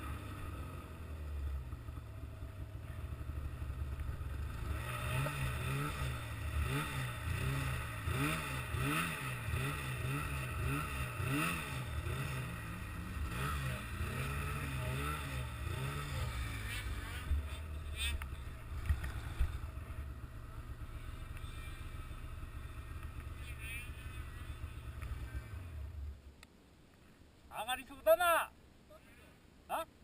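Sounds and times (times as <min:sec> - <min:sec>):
vehicle engine revving: 0:00.0 - 0:26.1.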